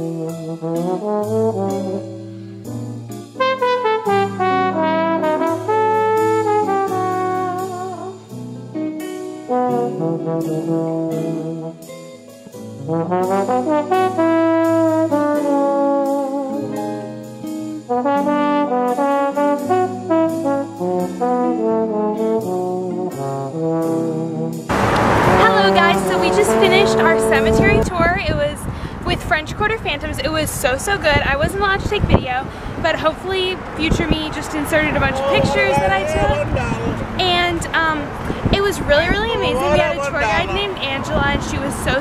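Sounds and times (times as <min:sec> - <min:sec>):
instrumental jazz with brass: 0:00.0 - 0:42.0.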